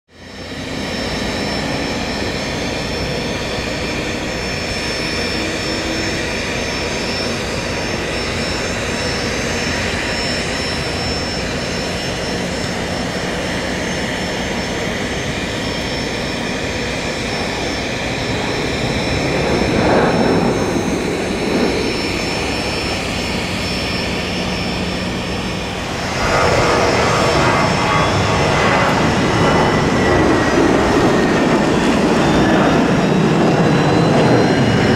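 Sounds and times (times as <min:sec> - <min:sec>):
jet engine rumble with whine: 0:00.1 - 0:34.9.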